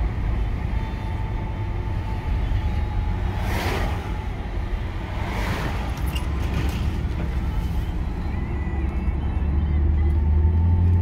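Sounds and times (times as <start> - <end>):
car engine and tyres rumbling: 0.0 - 11.0
vehicles passing by: 0.0 - 11.0.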